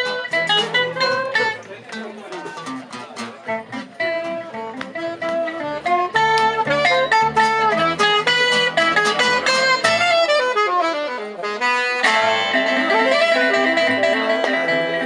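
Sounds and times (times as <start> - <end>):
plucked guitar runs: 0.0 - 10.4, 12.0 - 15.0
gypsy jazz band playing: 0.0 - 15.0.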